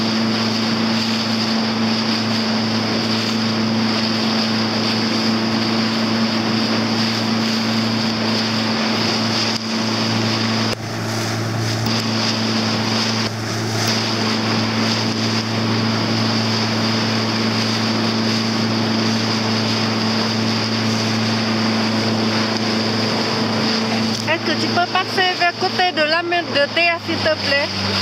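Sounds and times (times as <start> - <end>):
motorboat engine running: 0.0 - 28.0
water rushing past: 0.0 - 28.0.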